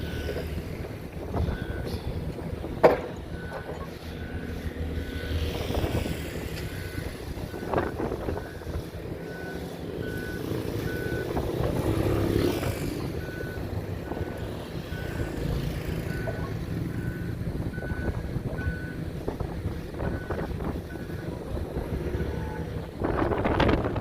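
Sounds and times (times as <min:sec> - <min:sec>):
reversing alarm beeping: 0:00.0 - 0:00.6, 0:01.4 - 0:02.2, 0:03.0 - 0:19.1, 0:20.0 - 0:21.4, 0:22.0 - 0:22.7
heavy diesel engine running: 0:00.0 - 0:24.0.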